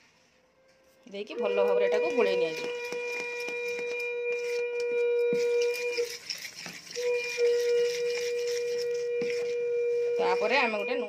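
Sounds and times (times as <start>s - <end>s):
steady horn-like tone: 0.0s - 11.0s
metal spoon stirring in steel bowl: 1.4s - 11.0s.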